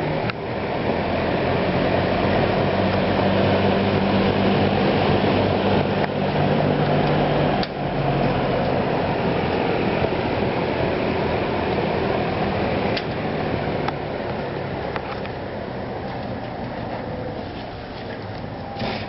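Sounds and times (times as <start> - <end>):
fan air rush: 0.0 - 19.0
low motor hum: 0.0 - 19.0.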